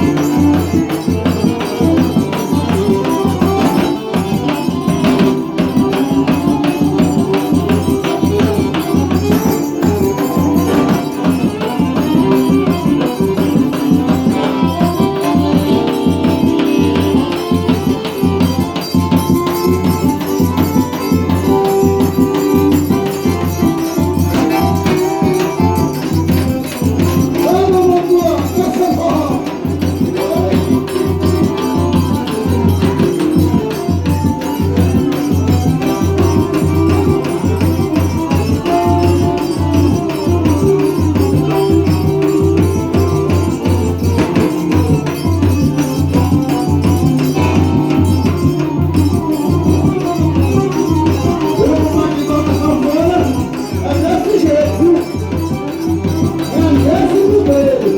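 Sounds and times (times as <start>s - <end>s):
accordion playing chords: 0.0s - 57.9s
jingling percussion: 0.0s - 57.9s.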